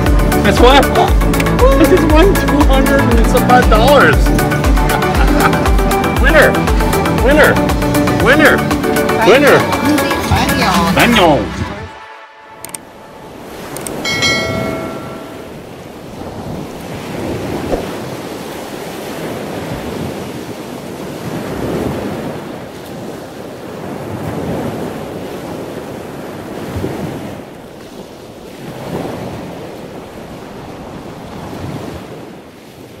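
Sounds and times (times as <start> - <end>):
ocean surf: 0.0 - 33.0.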